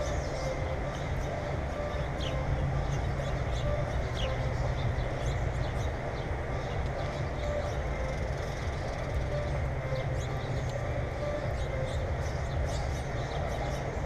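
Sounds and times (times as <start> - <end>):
high-pitched bird chirps: 0.0 - 14.0
steady low rumble: 0.0 - 14.0.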